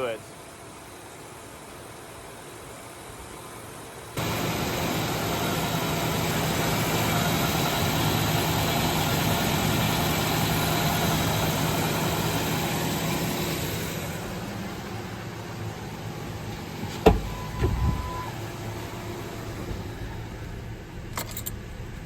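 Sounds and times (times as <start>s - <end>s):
truck engine idling: 4.1s - 22.0s.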